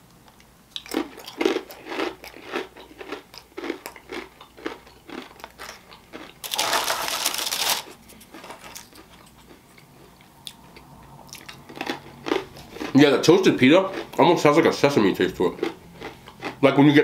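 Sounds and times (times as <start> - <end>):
chewing crunchy chips: 0.3 - 17.0.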